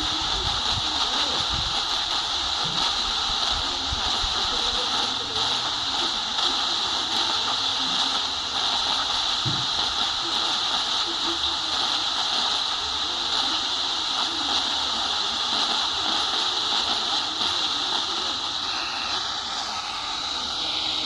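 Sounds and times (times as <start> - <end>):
faint distant radio station: 0.0 - 21.0
radio static: 0.0 - 21.0.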